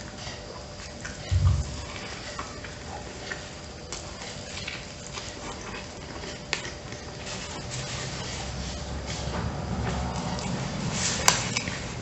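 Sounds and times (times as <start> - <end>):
man chewing: 0.0 - 12.0.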